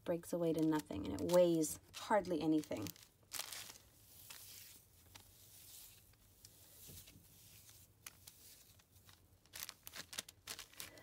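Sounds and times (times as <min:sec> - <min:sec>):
soft rustling of foam: 0:00.5 - 0:11.0.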